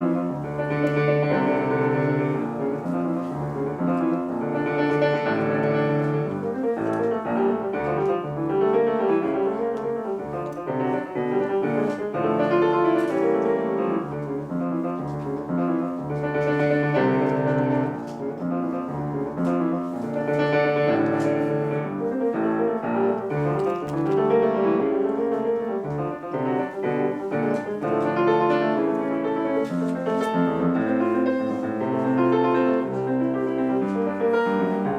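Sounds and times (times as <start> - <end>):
fast solo piano: 0.0 - 34.9.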